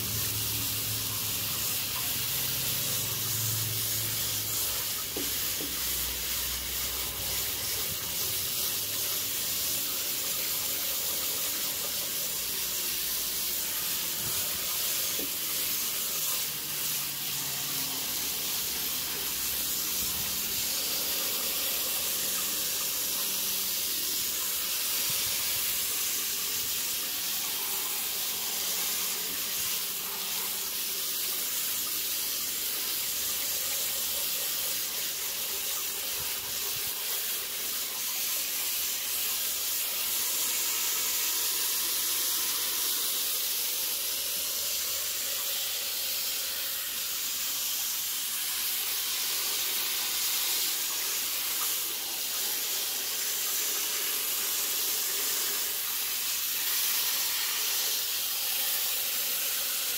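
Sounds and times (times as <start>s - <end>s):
hose spraying water onto grit: 0.0s - 59.9s.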